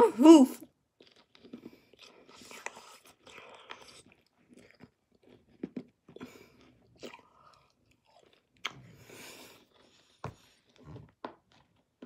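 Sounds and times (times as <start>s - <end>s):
candy chewing: 0.6s - 12.0s.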